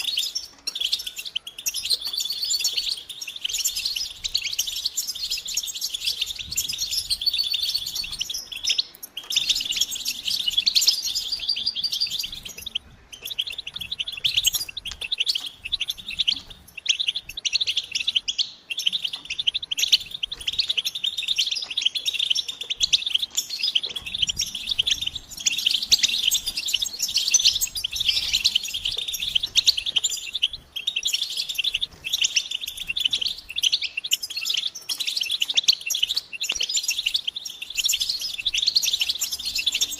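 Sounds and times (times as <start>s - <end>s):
finches chattering and twittering: 0.0s - 39.9s.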